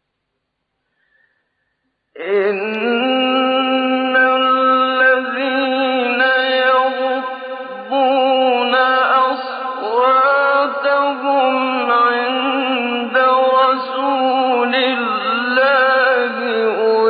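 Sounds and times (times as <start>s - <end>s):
man chanting melodically: 2.2s - 17.0s.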